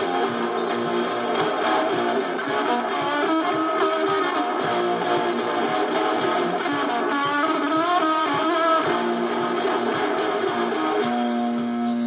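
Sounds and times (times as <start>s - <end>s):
electric guitar rock music: 0.0s - 12.0s.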